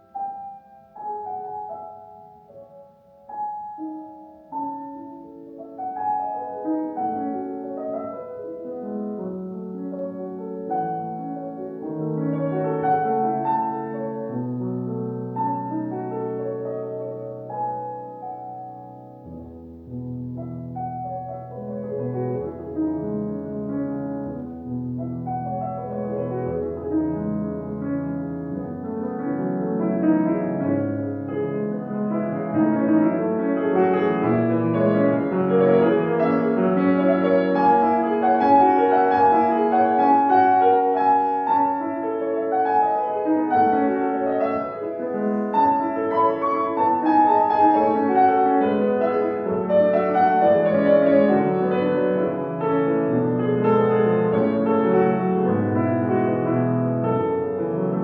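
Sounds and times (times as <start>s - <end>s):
classical piano music: 0.0s - 58.0s.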